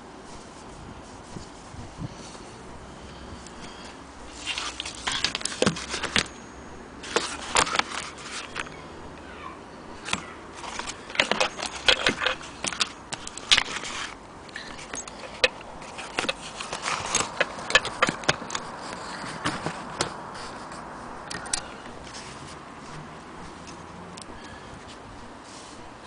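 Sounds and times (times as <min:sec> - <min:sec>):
hands handling leather: 0:00.2 - 0:06.4, 0:07.0 - 0:08.8, 0:10.0 - 0:26.0.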